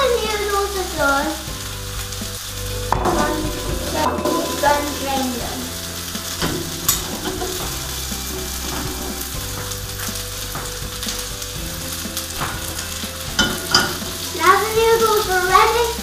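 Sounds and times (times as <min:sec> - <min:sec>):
vegetables sizzling in a wok: 0:00.0 - 0:16.0.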